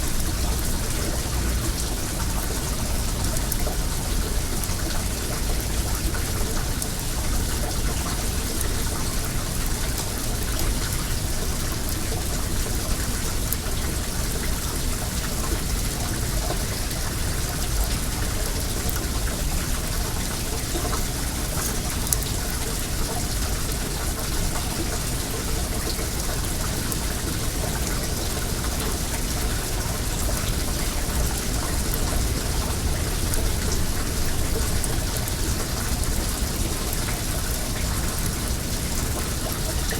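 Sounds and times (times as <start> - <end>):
water running: 0.0 - 39.9
wood fire crackling: 7.9 - 39.9.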